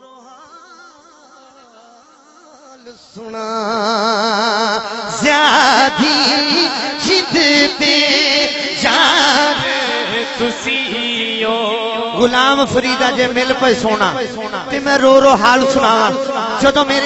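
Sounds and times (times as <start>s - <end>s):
man singing: 2.7s - 17.0s.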